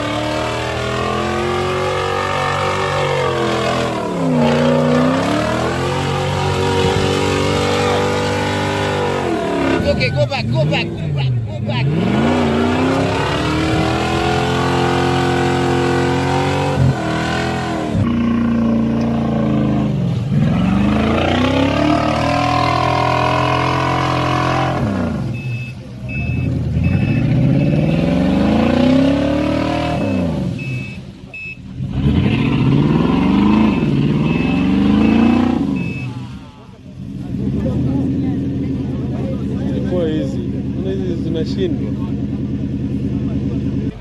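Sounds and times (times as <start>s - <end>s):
off-road vehicle engine revving: 0.0s - 44.0s.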